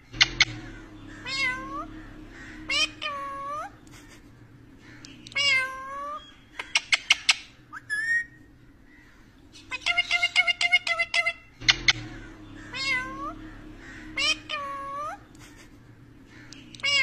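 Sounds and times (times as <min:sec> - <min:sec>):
parakeet calling: 0:00.0 - 0:17.0.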